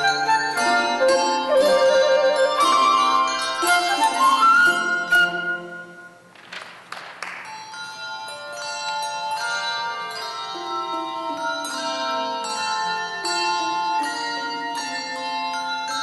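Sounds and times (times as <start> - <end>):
handbells ringing chords: 0.0 - 5.1, 7.4 - 16.0.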